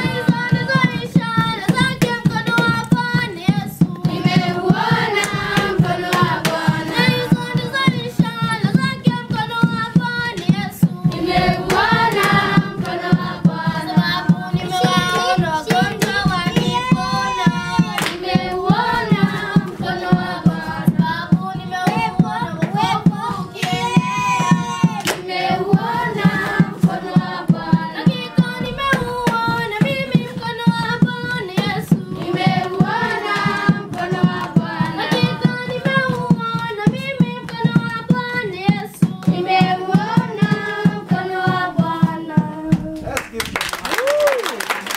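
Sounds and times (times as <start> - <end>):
children singing: 0.0 - 3.3, 3.9 - 36.4, 39.3 - 42.6
hand clapping: 0.0 - 20.9, 21.8 - 39.5, 43.0 - 44.9.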